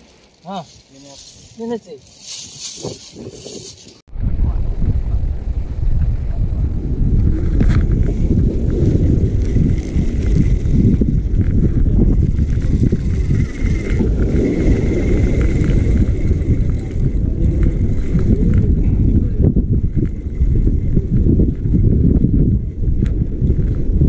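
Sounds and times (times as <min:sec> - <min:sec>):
wind buffeting the microphone: 0:00.5 - 0:24.0.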